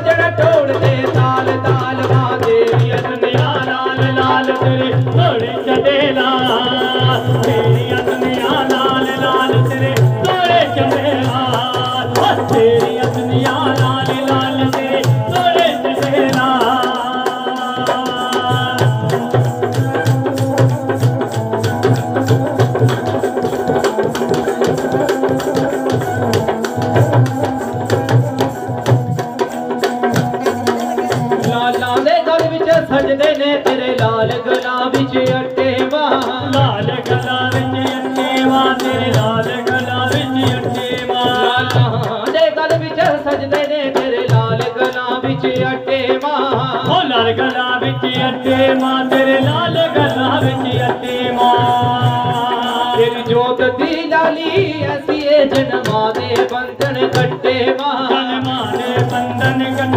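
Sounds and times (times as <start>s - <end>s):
hand drum beats: 0.0s - 59.9s.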